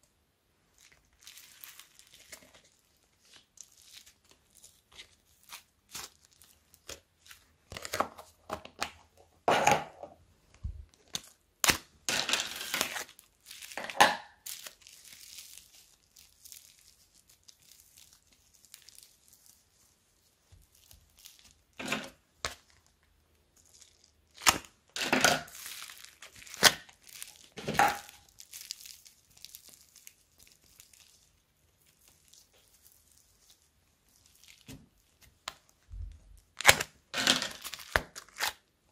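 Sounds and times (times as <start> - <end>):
slime stretching and tearing: 0.7 - 8.9, 10.9 - 38.7.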